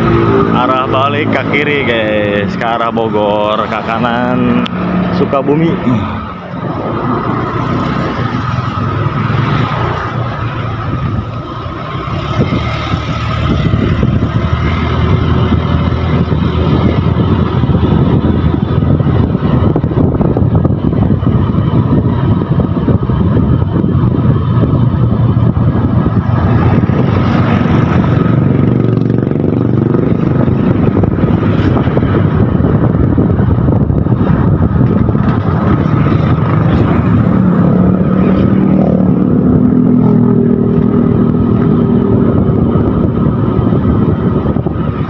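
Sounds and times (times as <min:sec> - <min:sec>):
motorcycle engine running: 0:00.0 - 0:45.0
wind rush on microphone: 0:00.0 - 0:45.0.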